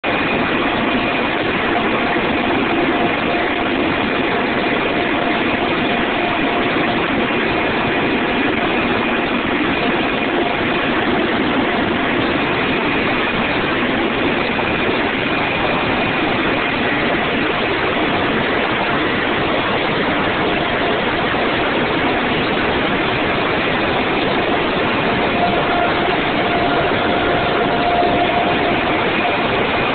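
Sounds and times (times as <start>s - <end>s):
helicopter engines and rotors roaring: 0.0s - 29.9s.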